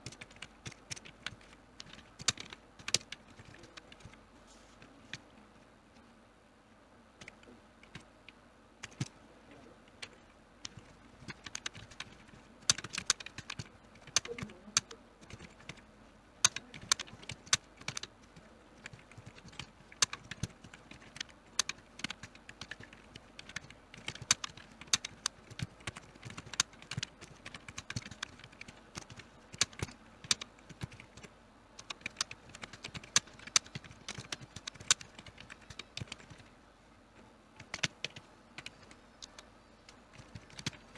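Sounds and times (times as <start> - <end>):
typing on computer keyboard: 0.0 - 4.2, 7.2 - 8.1, 8.8 - 9.2, 9.9 - 36.5, 37.6 - 40.9.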